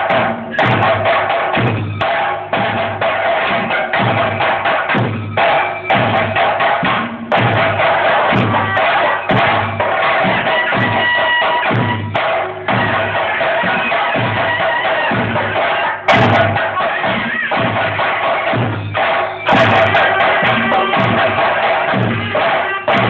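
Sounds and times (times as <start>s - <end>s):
drums beating fast rhythm: 0.0s - 23.0s.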